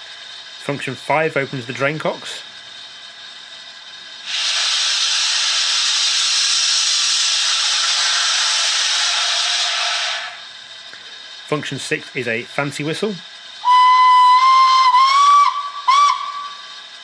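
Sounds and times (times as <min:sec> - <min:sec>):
steam hissing from speaker: 0:00.0 - 0:17.0.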